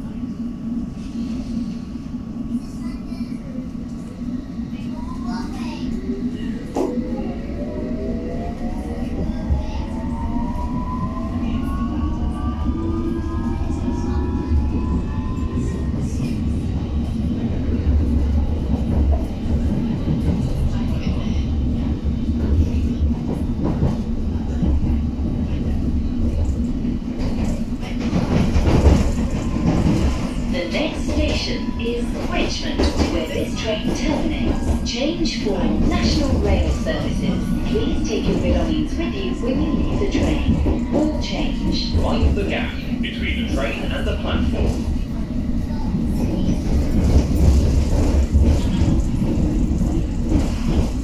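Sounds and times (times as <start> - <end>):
train rumbling along track: 0.0 - 51.0.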